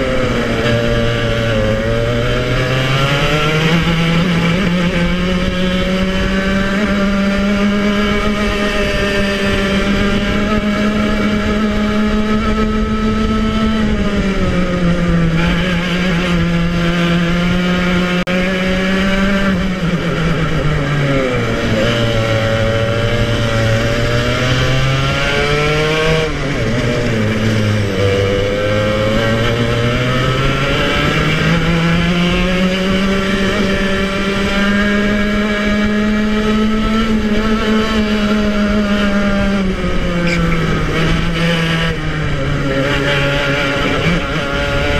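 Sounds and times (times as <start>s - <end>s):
kart engine racing: 0.0s - 44.9s.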